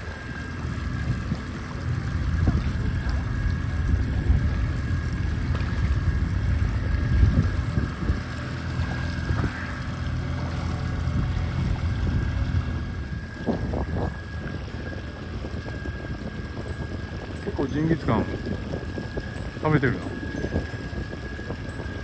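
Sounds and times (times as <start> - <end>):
faint high whine: 0.0 - 22.0
wind buffeting microphone: 0.0 - 22.0.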